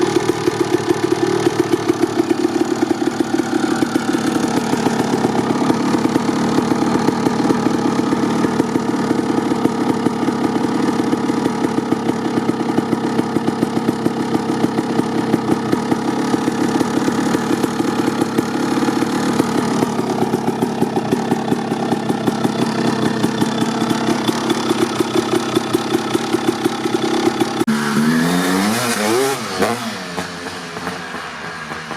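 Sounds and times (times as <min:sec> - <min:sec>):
dirt bike engine idling: 0:00.0 - 0:31.9.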